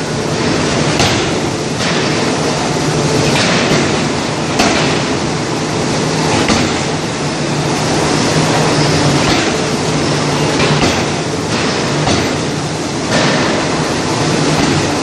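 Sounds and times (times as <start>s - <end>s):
forge machinery humming: 0.0s - 15.0s.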